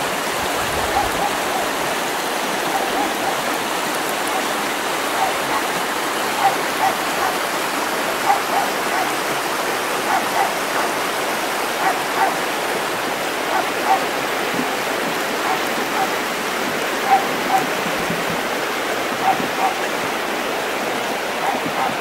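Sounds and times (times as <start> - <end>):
stream flowing water: 0.0 - 22.0.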